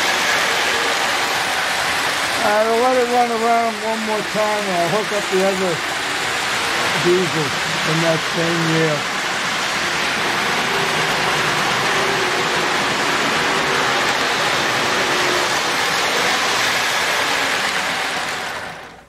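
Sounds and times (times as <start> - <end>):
locomotive motor running: 0.0 - 19.0
metal wheels rumbling on rail: 0.0 - 19.0.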